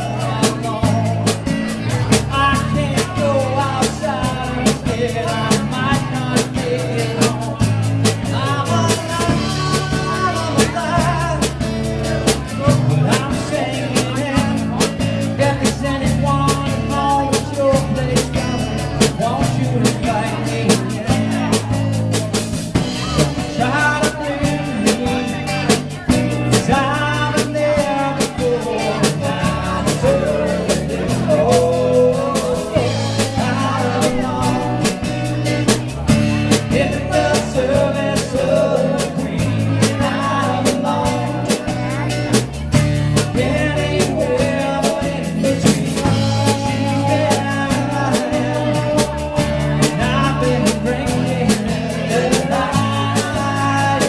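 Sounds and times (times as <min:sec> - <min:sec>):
drum kit beat: 0:00.0 - 0:54.0
rock band playing: 0:00.0 - 0:54.0.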